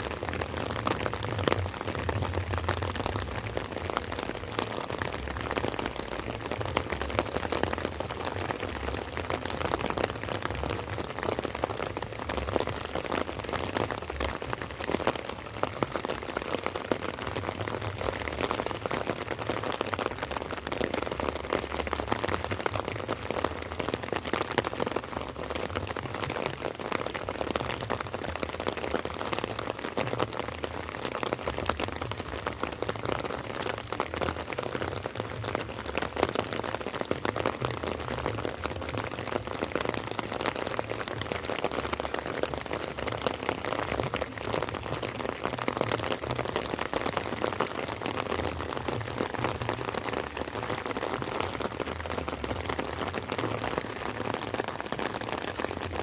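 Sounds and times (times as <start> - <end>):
light rain crackling: 0.0 - 56.0.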